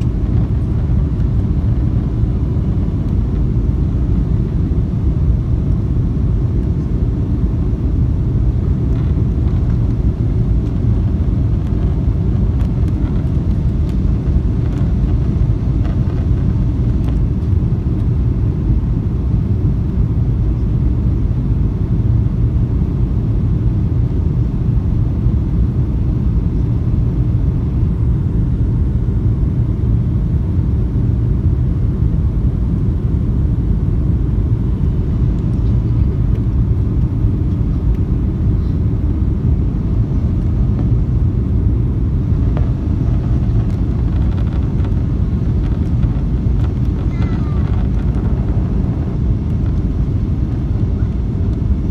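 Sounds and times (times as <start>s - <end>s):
airliner cabin roar: 0.0s - 51.9s.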